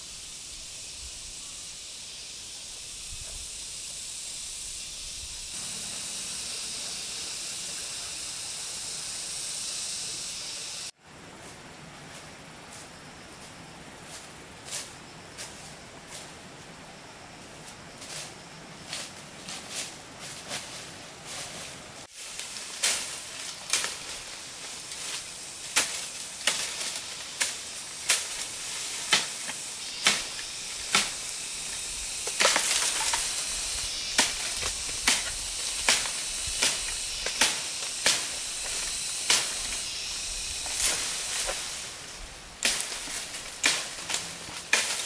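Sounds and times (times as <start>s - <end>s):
hiss: 0.0s - 11.5s, 18.0s - 45.0s.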